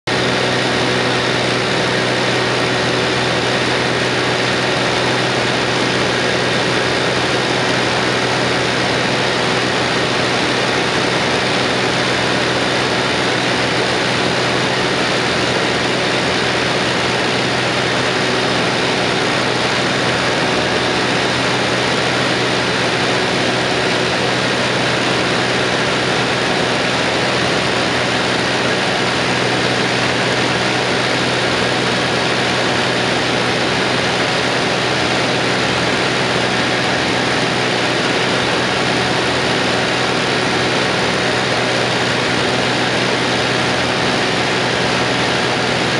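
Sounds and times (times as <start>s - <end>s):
propeller aircraft cabin drone: 0.0s - 45.9s.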